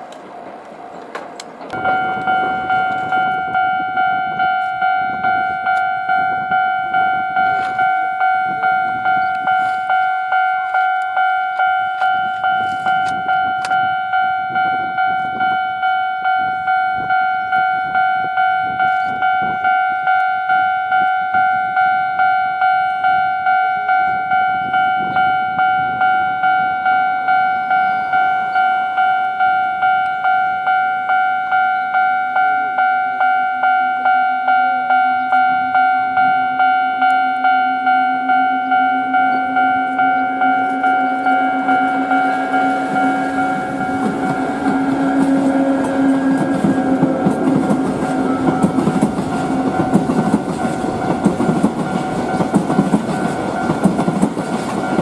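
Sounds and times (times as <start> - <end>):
electric locomotive rumble: 0.0 - 55.0
level crossing bell ringing: 1.8 - 55.0.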